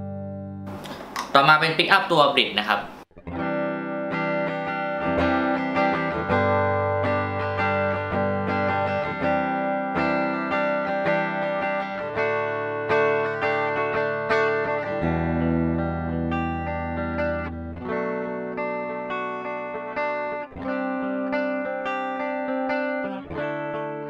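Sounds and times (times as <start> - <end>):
clean electric guitar chords: 0.0 - 1.3, 3.1 - 24.0.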